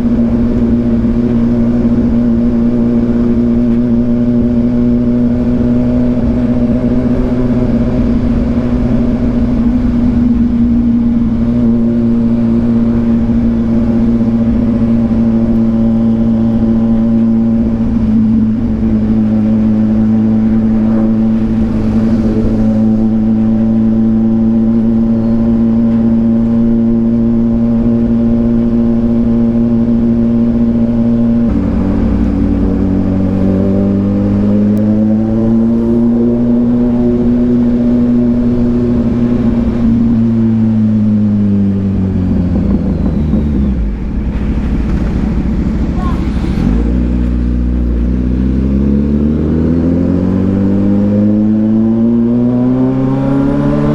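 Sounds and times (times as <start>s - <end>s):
motorcycle engine at cruising speed: 0.0s - 53.9s.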